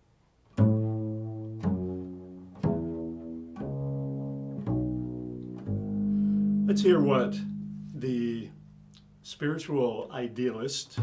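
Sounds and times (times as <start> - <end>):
low plucked string notes: 0.6 - 9.6.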